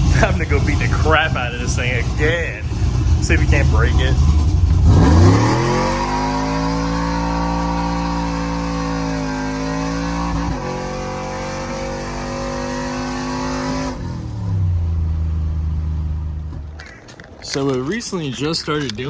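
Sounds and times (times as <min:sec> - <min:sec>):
truck engine accelerating: 0:00.0 - 0:19.0.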